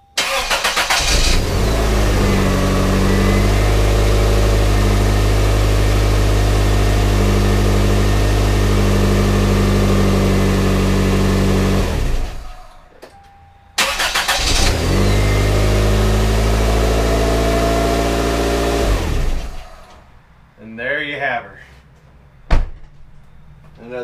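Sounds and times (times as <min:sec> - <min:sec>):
car engine cranking and idling: 0:00.1 - 0:20.1.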